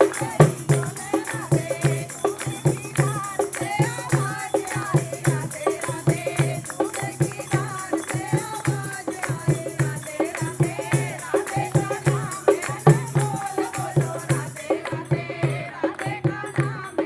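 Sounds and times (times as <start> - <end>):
jingling percussion: 0.0 - 17.0
person singing devotional song: 0.0 - 17.0
quick beat: 0.0 - 17.0.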